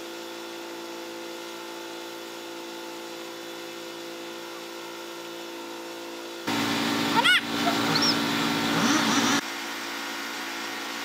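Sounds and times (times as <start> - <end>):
engine droning steadily: 1.9 - 11.0.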